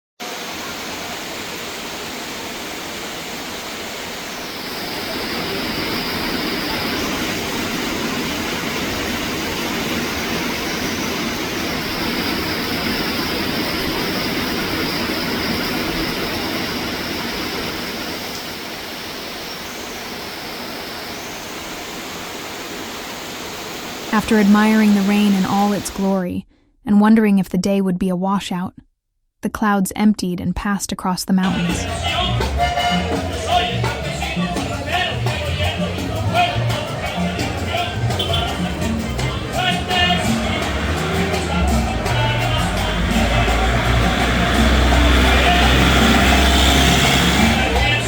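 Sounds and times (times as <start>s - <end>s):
heavy rain pouring: 0.2s - 26.2s, 31.5s - 48.0s.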